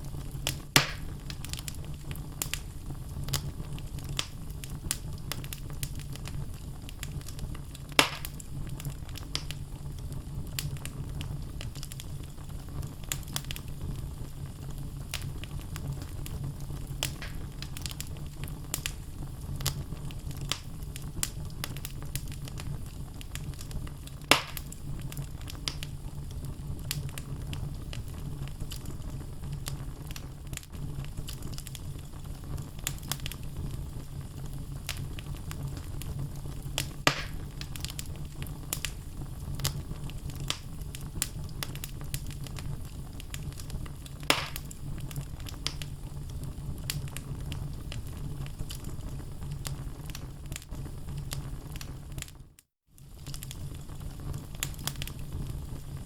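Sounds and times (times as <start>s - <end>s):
loud pops from fire: 0.0s - 52.4s, 53.0s - 56.0s
fire crackling: 0.0s - 56.0s.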